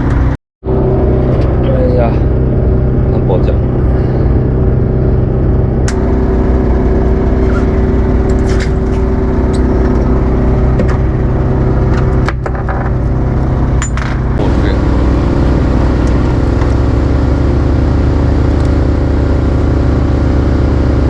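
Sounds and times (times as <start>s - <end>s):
motorboat engine drone: 0.0s - 21.0s.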